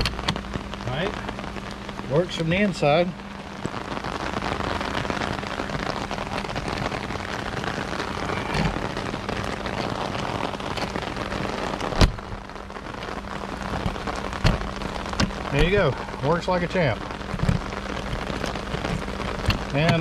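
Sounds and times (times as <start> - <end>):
steady rain on a trailer: 0.0 - 20.0.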